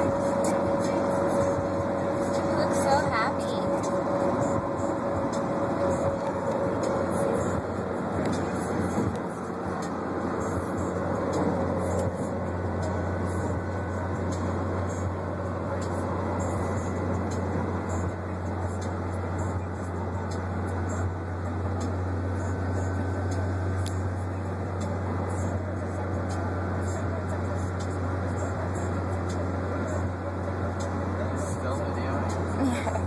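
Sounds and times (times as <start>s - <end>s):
car cabin drone: 0.0s - 33.0s.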